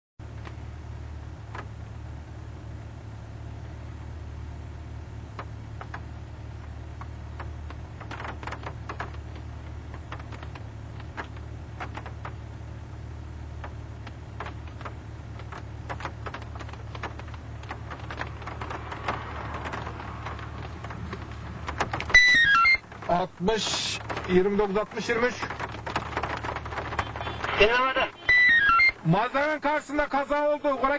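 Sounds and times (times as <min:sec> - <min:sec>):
low hum inside car: 0:00.2 - 0:30.9
passing traffic road noise: 0:00.2 - 0:30.9.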